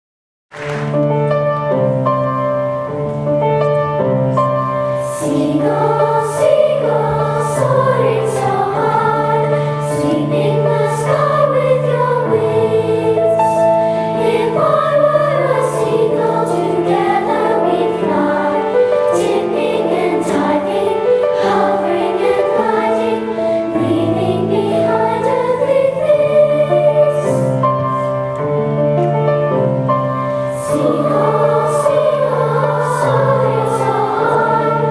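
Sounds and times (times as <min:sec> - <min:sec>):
children's choir singing: 0:04.8 - 0:28.9, 0:30.1 - 0:34.9.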